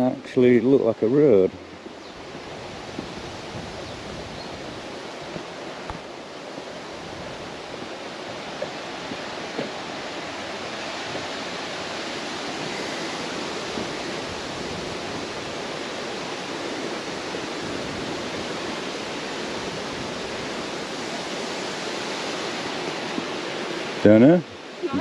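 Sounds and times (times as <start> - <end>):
rushing wind: 0.0 - 25.0.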